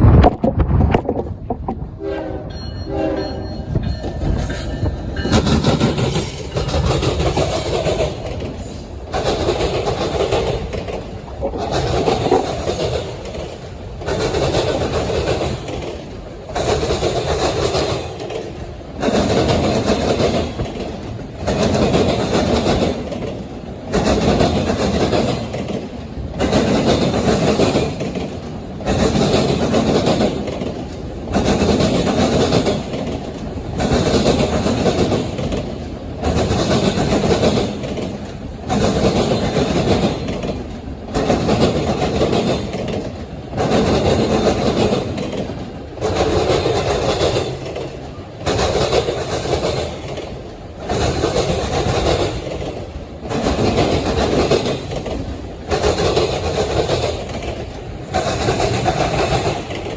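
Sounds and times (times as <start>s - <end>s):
train wheels clattering on rails: 1.5s - 59.9s.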